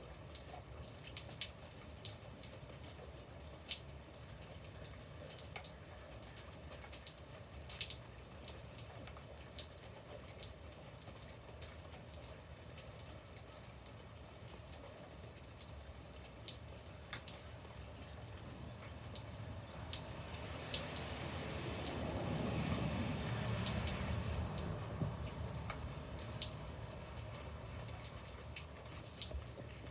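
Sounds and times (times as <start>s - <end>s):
raindrops ticking on leaves: 0.0s - 29.9s
soft rain patter: 0.0s - 29.9s.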